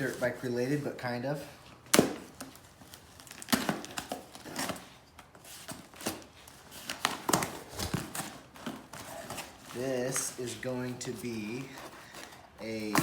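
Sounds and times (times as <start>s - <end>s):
packaging crinkling and tearing: 1.9s - 13.0s.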